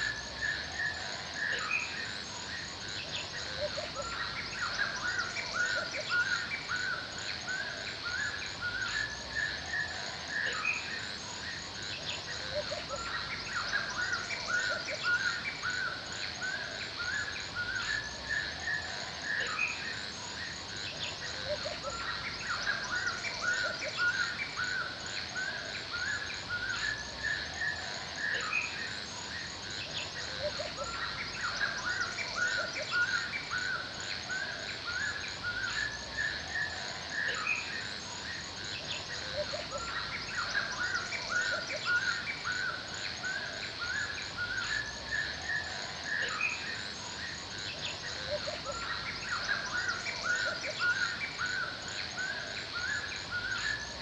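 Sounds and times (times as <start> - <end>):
birds chirping: 0.0 - 54.0
insect trill: 0.0 - 54.0.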